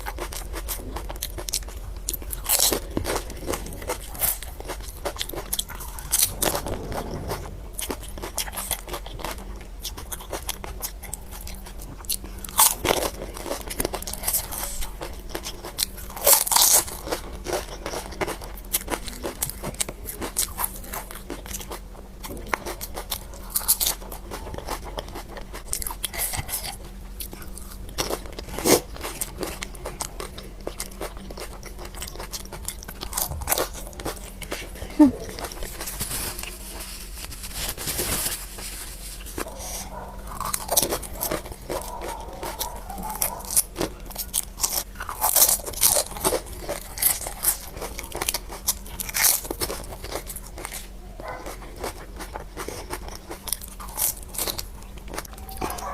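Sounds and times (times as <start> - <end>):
crisp shells crunching: 0.0 - 21.8, 22.5 - 55.9
wet chewing: 0.0 - 37.5, 39.3 - 55.9.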